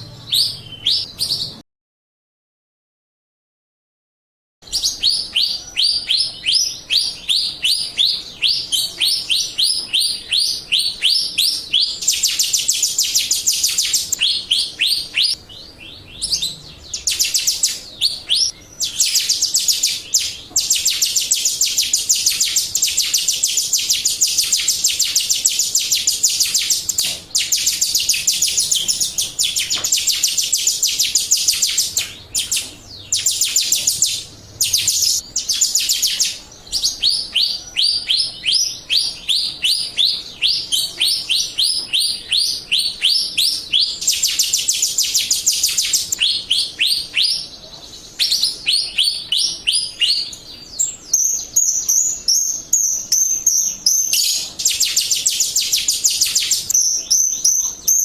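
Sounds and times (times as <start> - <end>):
starling chattering song: 4.6 - 58.0.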